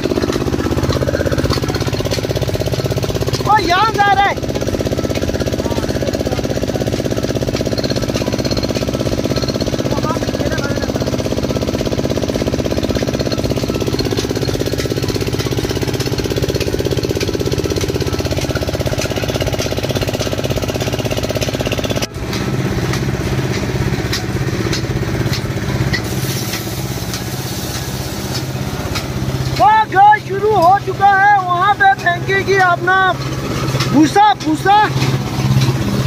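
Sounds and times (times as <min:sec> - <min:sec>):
small engine running: 0:00.0 - 0:36.0
thresher ticking and rattling: 0:00.0 - 0:36.0.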